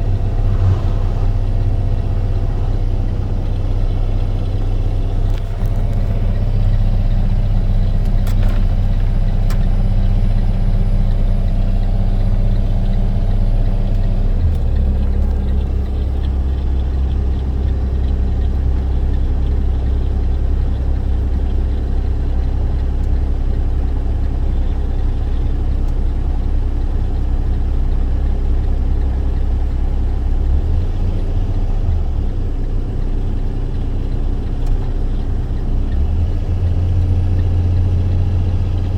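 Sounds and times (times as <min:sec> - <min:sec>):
truck engine and road drone: 0:00.0 - 0:38.9.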